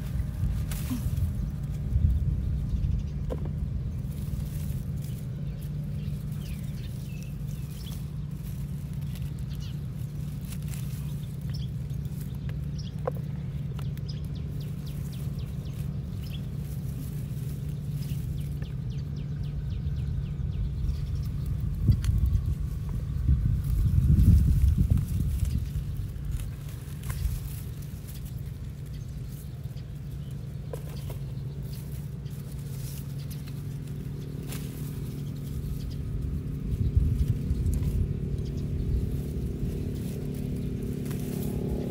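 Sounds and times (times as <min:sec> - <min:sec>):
blade snipping grass stalks: 0:00.0 - 0:02.0, 0:03.1 - 0:19.6, 0:20.9 - 0:41.9
small birds chirping: 0:00.0 - 0:41.9
steady low hum: 0:00.0 - 0:41.9.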